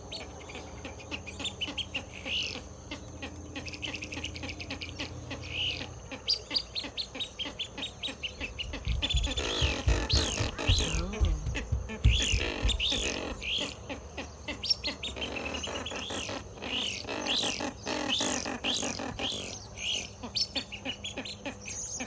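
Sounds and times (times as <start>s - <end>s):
ducks calling: 0.0s - 22.0s.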